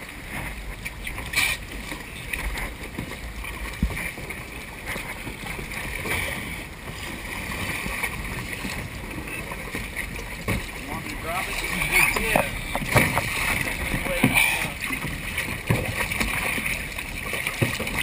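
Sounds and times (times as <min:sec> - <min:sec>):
water slapping against a boat: 0:00.0 - 0:18.0.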